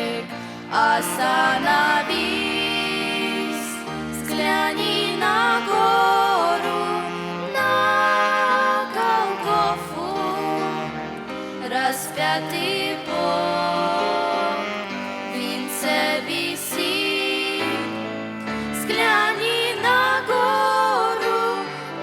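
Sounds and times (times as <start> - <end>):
sustained instrumental accompaniment: 0.0 - 22.0.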